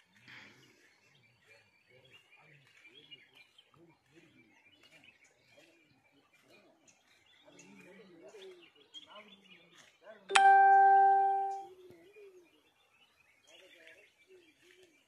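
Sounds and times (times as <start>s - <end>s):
faint distant voices: 0.0s - 15.0s.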